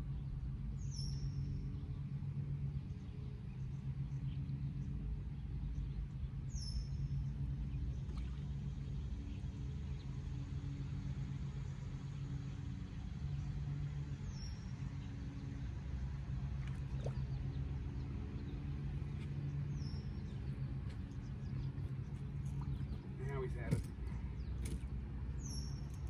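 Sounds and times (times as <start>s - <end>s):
low motor hum: 0.0s - 26.0s.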